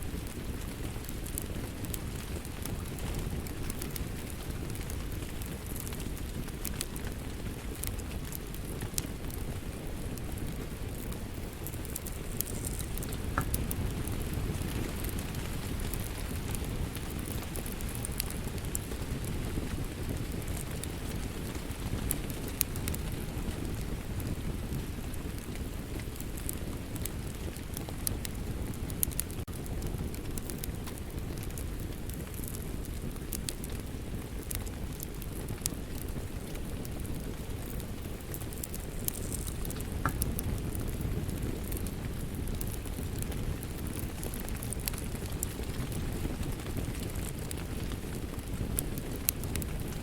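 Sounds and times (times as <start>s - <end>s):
steady rain: 0.0s - 50.0s
wood fire crackling: 0.0s - 50.0s.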